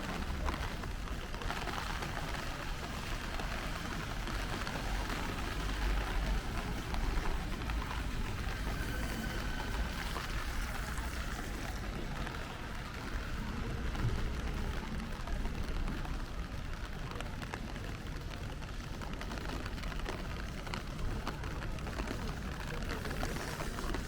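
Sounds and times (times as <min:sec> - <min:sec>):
rain on a street: 0:00.0 - 0:24.0.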